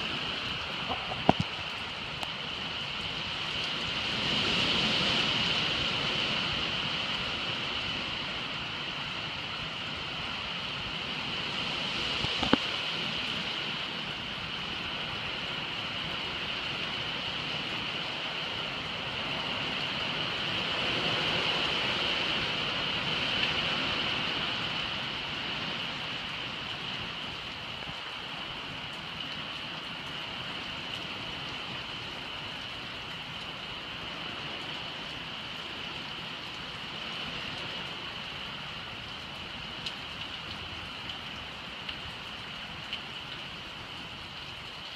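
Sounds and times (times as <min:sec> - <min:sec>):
gusting wind: 0:00.0 - 0:41.6
heavy rain hissing on water: 0:00.0 - 0:44.9.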